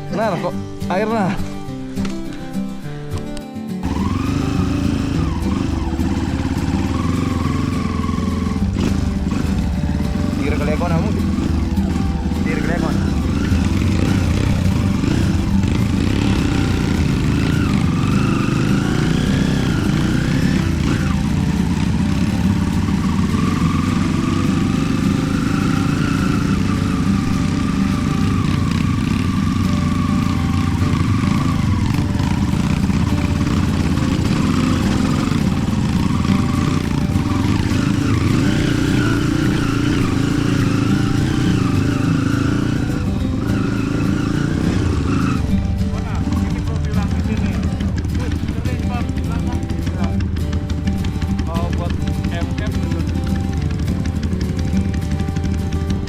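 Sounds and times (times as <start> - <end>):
motorcycle engine running: 3.8 - 56.0.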